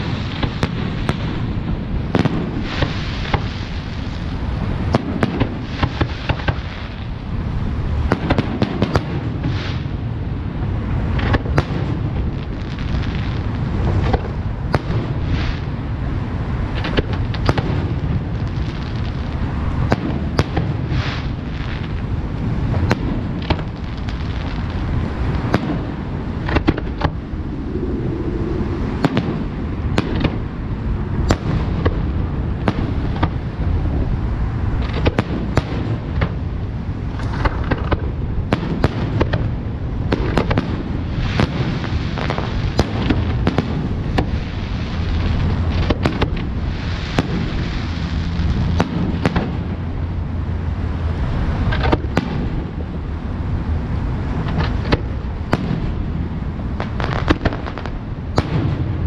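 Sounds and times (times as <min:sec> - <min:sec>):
fireworks bangs: 0:00.0 - 0:07.2, 0:08.0 - 0:10.0, 0:11.1 - 0:15.9, 0:16.7 - 0:27.5, 0:28.7 - 0:34.0, 0:34.8 - 0:36.5, 0:37.1 - 0:49.9, 0:51.6 - 0:52.9, 0:54.5 - 0:59.0
low rumble and crackle: 0:00.0 - 0:59.0.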